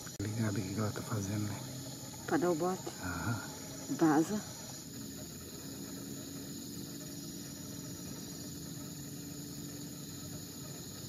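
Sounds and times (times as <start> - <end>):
crickets chirping: 0.0 - 11.0
faint low hum: 0.0 - 11.0.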